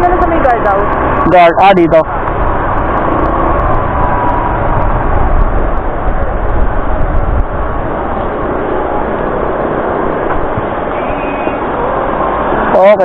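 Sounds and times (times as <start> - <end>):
motorcycle engine and road noise: 0.0 - 13.0.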